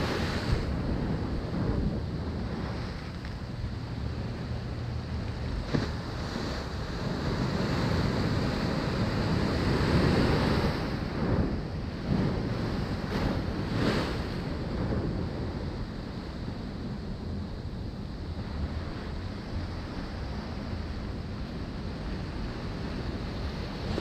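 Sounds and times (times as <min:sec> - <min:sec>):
ocean surf washing onto beach: 0:00.0 - 0:24.0
wind buffeting microphone: 0:00.0 - 0:24.0.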